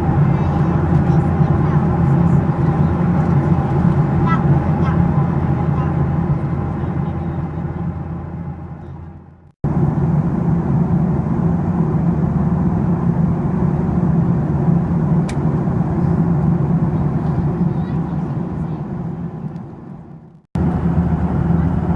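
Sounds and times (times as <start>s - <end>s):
airplane engine hum: 0.0s - 21.9s.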